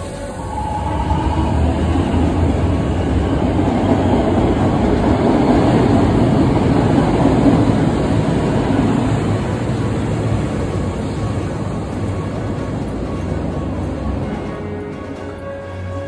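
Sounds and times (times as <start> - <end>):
subway train rumbling past: 0.0 - 16.0.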